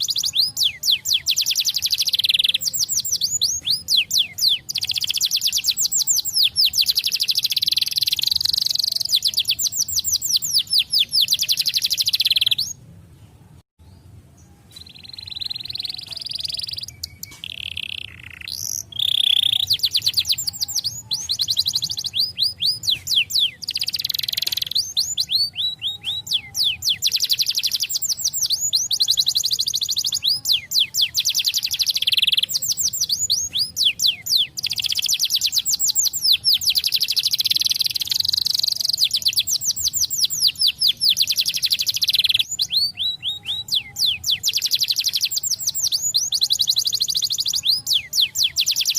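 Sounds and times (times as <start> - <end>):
canary singing trills: 0.0 - 12.9, 13.9 - 48.9.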